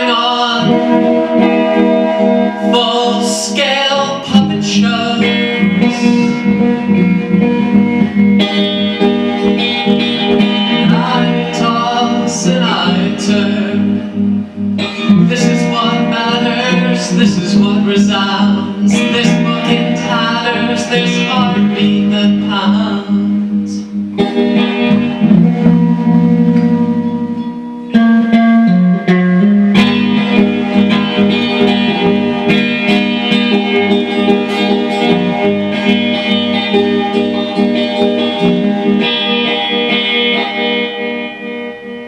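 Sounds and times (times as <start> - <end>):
plucked guitar chords ringing: 0.0 - 42.0.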